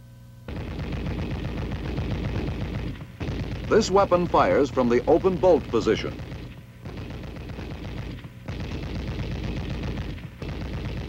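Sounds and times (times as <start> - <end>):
machine gun bursts: 0.5 - 11.0.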